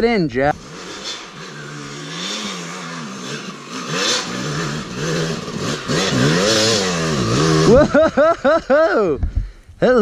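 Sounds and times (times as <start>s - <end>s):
dirt bike engine revving: 0.0s - 8.4s.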